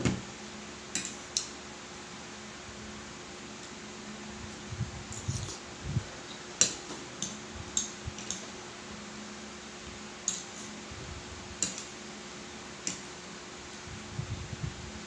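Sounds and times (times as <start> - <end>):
electric fan hum: 0.0 - 15.0.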